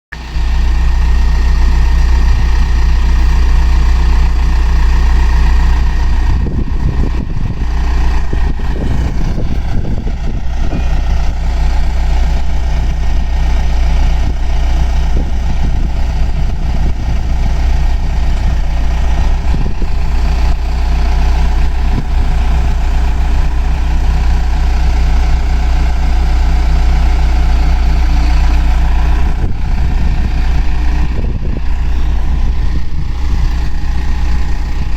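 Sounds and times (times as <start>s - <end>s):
diesel engine humming: 0.1s - 34.9s.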